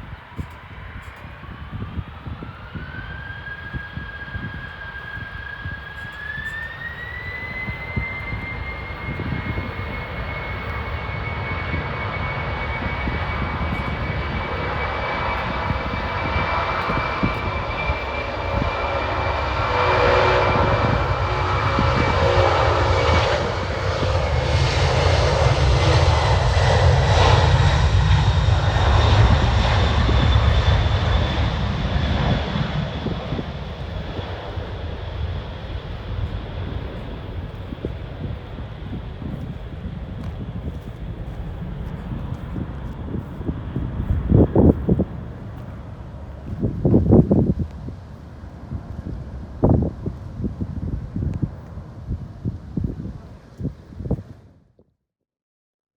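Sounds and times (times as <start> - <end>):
deep jet engine rumble: 0.0 - 54.6
jet engine whine: 0.0 - 54.6.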